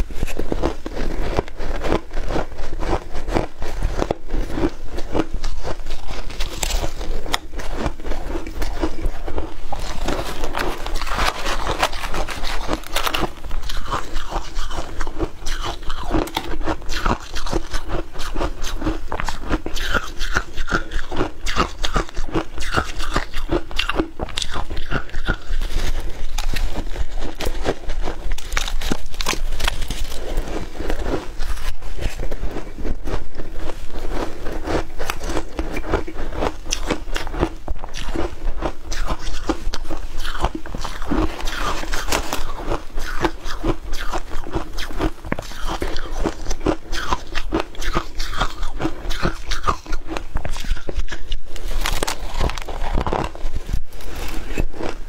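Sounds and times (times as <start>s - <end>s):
ice being chewed: 0.0s - 55.0s.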